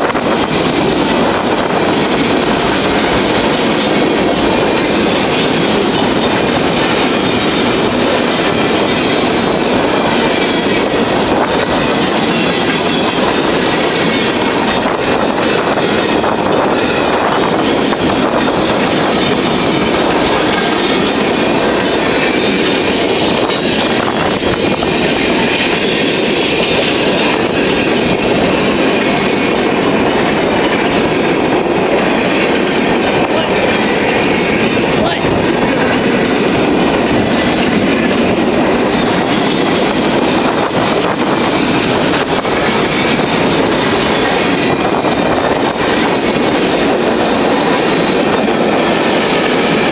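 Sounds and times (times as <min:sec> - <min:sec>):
freight train rolling past: 0:00.0 - 0:49.9.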